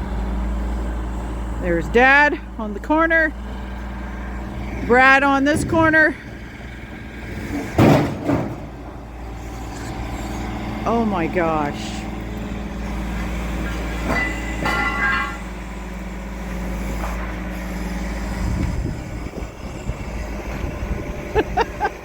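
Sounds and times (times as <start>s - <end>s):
crane diesel engine rumbling: 0.0s - 22.0s.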